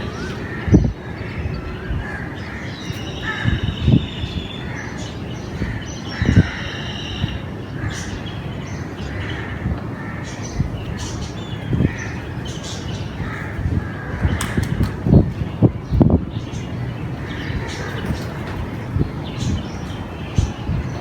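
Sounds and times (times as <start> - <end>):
birds harsh calls: 0.0 - 21.0.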